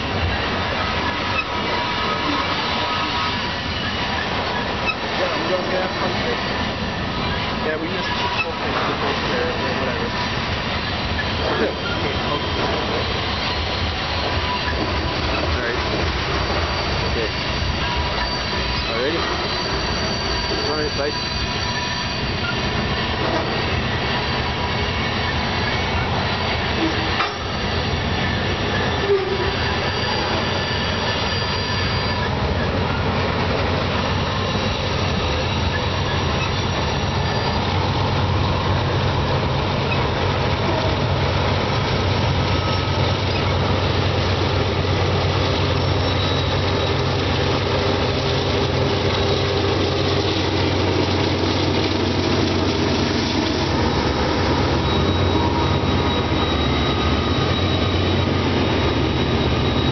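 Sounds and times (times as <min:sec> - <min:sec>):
diesel locomotive drone: 0:00.0 - 0:59.9
train wheels squealing and clattering: 0:00.0 - 0:59.9.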